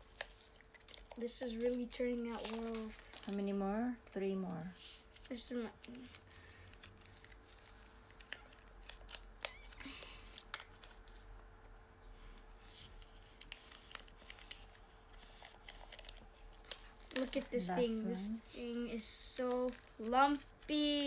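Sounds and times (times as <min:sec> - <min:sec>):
faint steady hum: 0:00.0 - 0:21.0
plastic sachets crinkling: 0:00.0 - 0:21.0.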